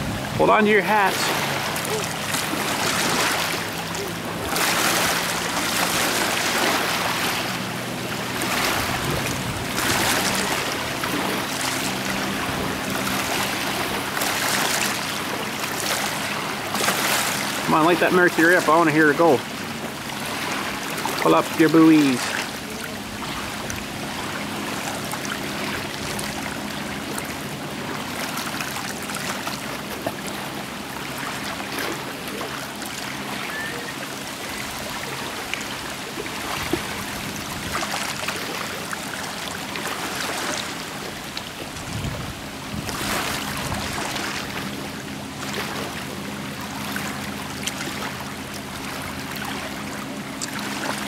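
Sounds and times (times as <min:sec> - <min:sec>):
outboard motor humming: 0:00.0 - 0:51.0
water rushing: 0:00.0 - 0:51.0.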